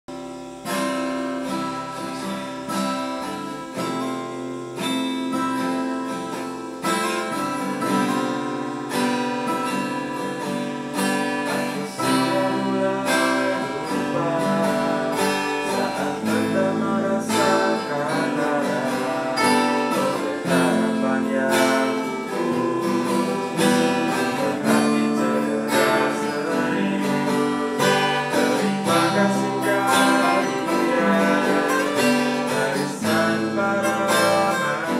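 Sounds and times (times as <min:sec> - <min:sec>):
acoustic guitars strumming: 0:00.1 - 0:34.9.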